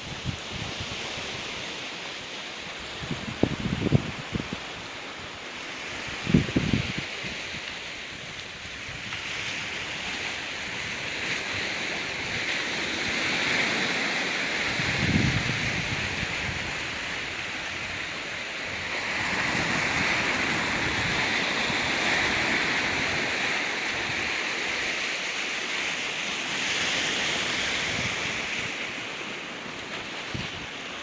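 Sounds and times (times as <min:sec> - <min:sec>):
wind on microphone: 0:00.0 - 0:01.9, 0:02.7 - 0:31.0
waves washing onto rocks: 0:00.0 - 0:31.0.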